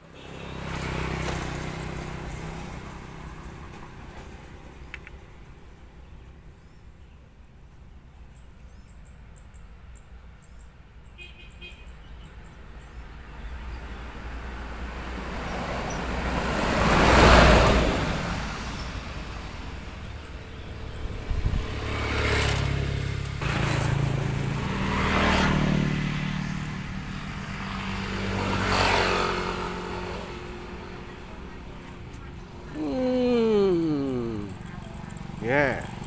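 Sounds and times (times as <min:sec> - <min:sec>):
road traffic passing: 0:00.0 - 0:36.0.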